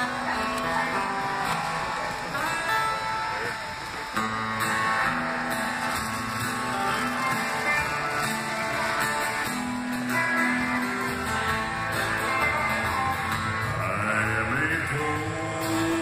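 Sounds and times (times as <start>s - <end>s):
bass: 0.0s - 16.0s
electric guitar: 0.0s - 16.0s
strummed acoustic guitar: 0.0s - 16.0s.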